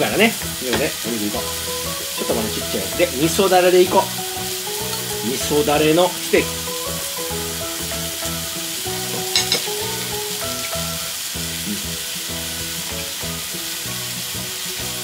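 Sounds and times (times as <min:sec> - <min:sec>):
food sizzling on grill plate: 0:00.0 - 0:15.0.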